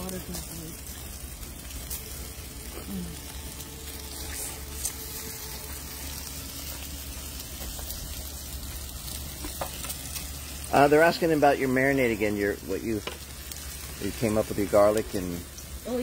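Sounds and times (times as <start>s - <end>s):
faint crackles: 0.0s - 16.0s
onions sizzling in hot oil: 0.0s - 16.0s.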